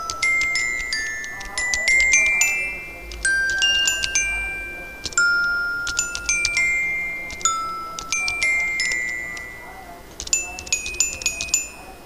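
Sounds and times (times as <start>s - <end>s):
bell-like tinkling melody: 0.0s - 12.0s.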